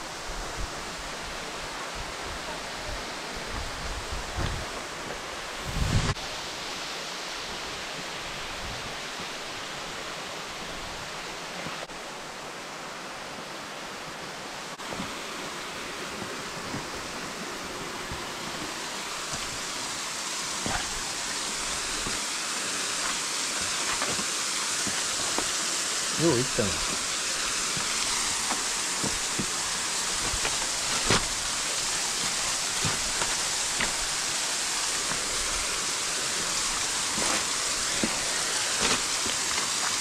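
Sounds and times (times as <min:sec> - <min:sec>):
falling water rushing: 0:00.0 - 0:40.0.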